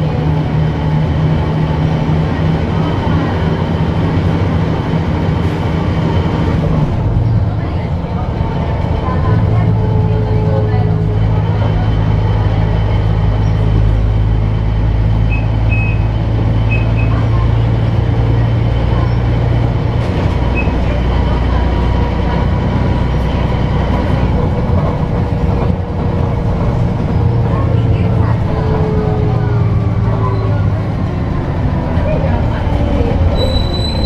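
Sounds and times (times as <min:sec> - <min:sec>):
bus diesel engine drone: 0:00.0 - 0:34.0
road noise: 0:00.0 - 0:34.0.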